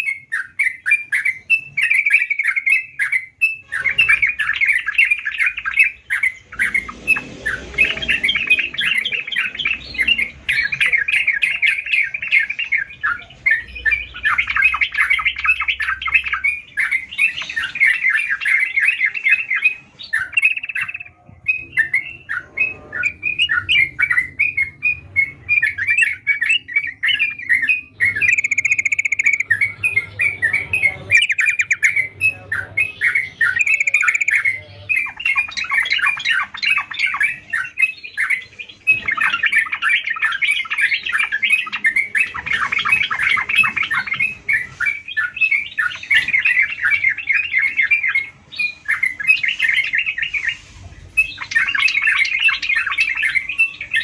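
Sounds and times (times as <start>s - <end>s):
bird singing chattering notes: 0.0s - 54.0s.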